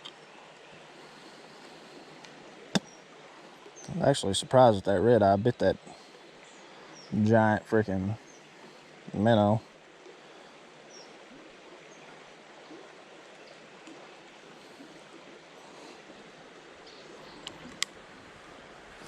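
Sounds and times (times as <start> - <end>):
creek flowing: 0.0 - 19.0.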